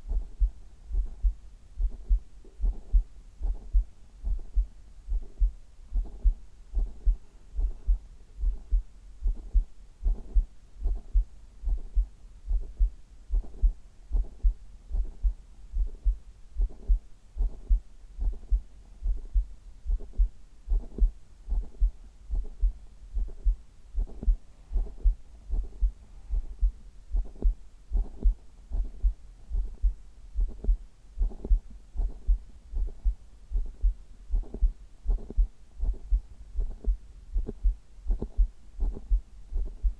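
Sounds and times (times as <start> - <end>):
muffled heartbeat thumps: 0.0 - 39.9.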